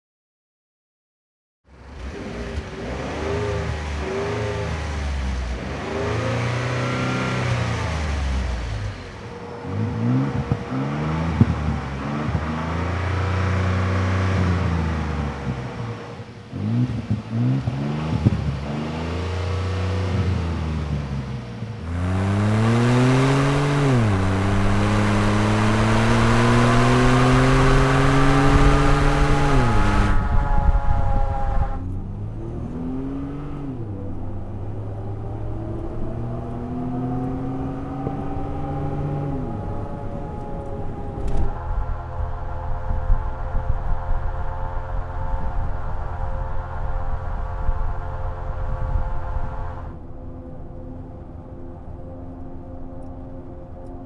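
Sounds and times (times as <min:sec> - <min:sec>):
truck engine revving: 0:01.8 - 0:50.0.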